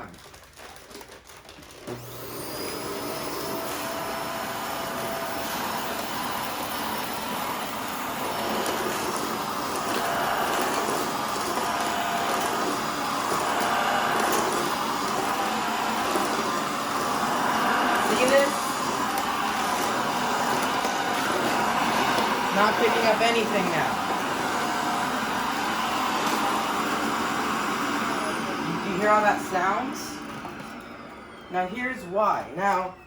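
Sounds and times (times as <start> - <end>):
upright vacuum cleaner running: 1.6 - 33.0
vacuum motor rising whine: 1.8 - 33.0.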